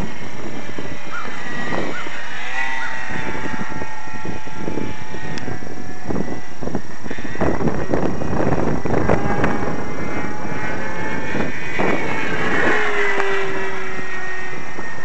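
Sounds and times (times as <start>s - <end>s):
model plane motor whine: 0.0s - 15.0s
wind buffeting microphone: 0.0s - 15.0s.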